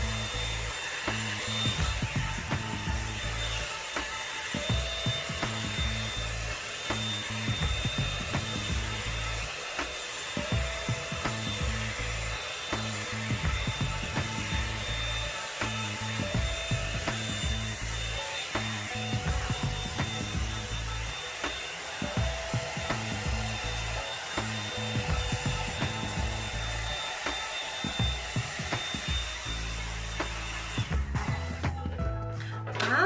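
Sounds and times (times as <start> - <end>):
bristles rubbing through hair: 0.0 - 31.7
hot air brush dryer blowing: 0.0 - 33.0.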